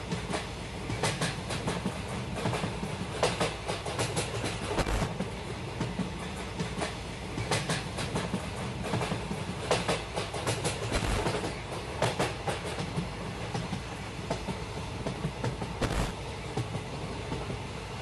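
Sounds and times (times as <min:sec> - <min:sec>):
train rumbling: 0:00.0 - 0:18.0
wheels clacking over rail joints: 0:00.1 - 0:17.6.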